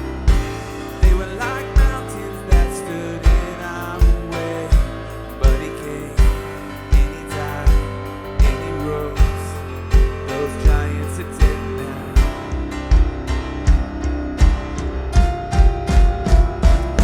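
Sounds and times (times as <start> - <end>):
kick drum beat: 0.0 - 17.0
sustained piano chords: 0.0 - 17.0.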